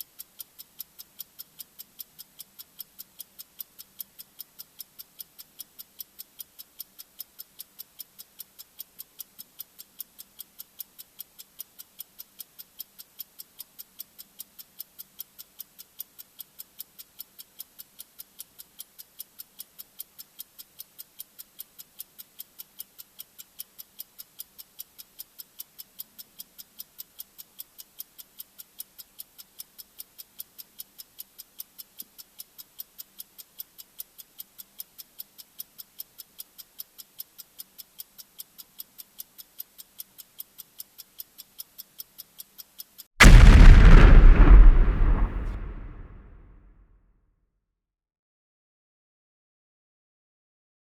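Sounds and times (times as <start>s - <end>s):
sharp high-pitched timer ticks: 0.0s - 43.0s.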